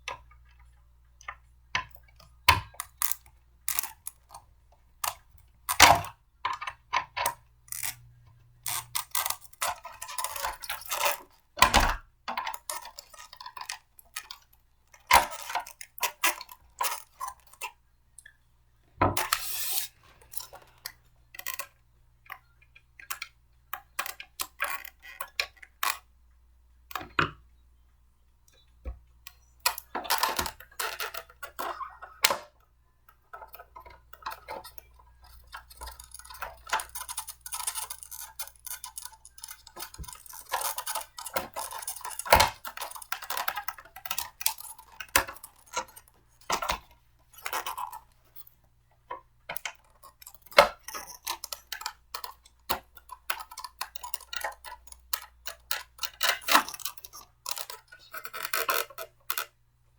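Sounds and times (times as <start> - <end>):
plastic parts clicking and rattling: 0.0 - 18.4, 19.0 - 26.1, 28.5 - 59.6.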